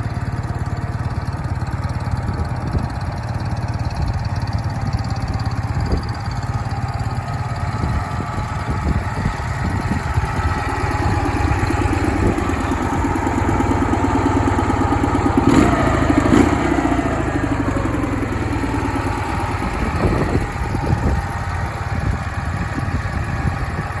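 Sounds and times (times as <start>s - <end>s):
motorcycle engine running and revving: 0.0s - 24.0s.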